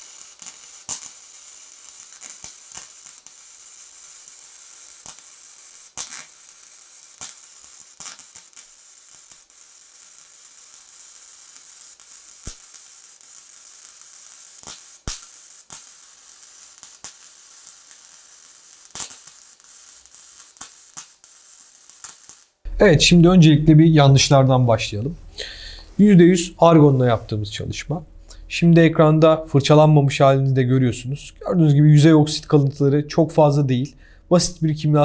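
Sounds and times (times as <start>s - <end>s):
welding arc hissing and crackling: 0.0s - 35.0s.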